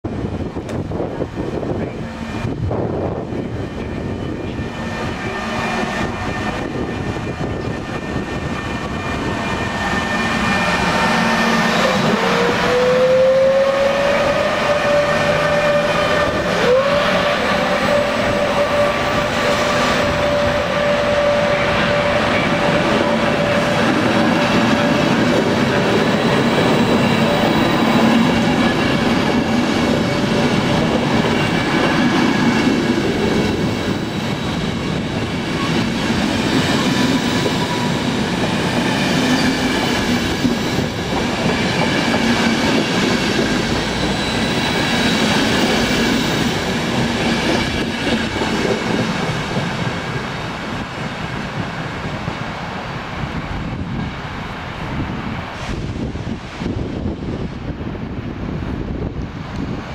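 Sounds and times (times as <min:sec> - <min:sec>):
train wheels rumbling on rails: 0:00.0 - 0:59.9
locomotive whine rising: 0:00.6 - 0:51.6.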